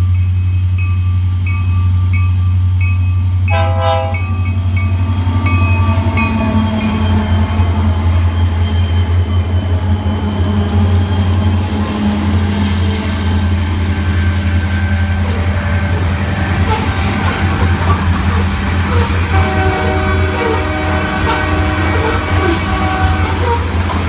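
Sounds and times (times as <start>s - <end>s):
wheels rumbling on rail: 0.0s - 24.0s
diesel engine drone: 4.6s - 24.0s.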